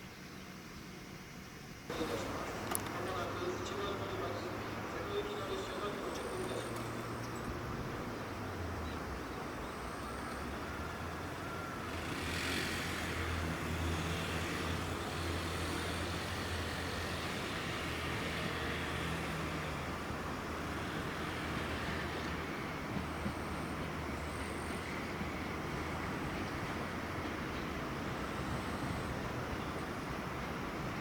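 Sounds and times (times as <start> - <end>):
vehicle engine hum: 1.9 - 31.0.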